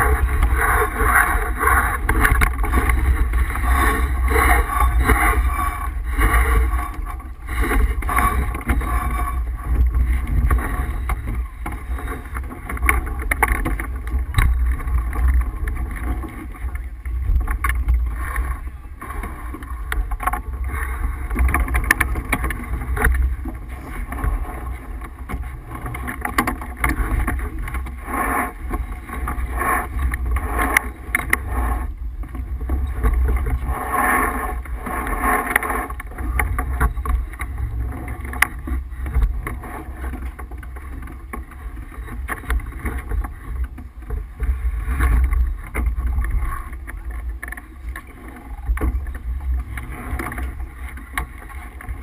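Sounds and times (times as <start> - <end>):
water rushing along hull: 0.0 - 52.0.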